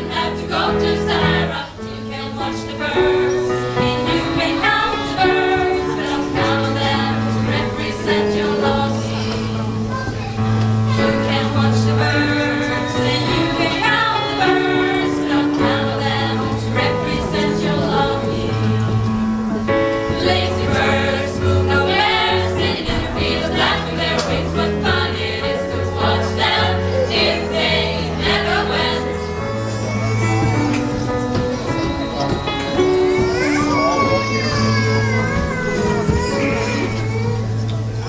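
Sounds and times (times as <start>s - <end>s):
choir singing: 0.0s - 34.4s.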